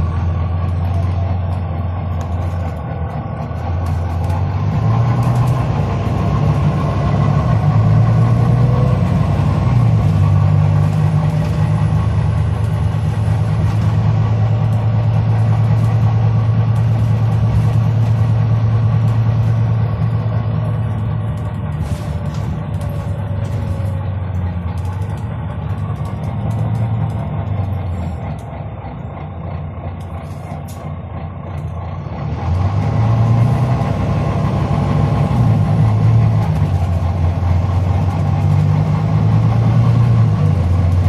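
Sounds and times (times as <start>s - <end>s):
diesel bus engine running: 0.0s - 41.0s.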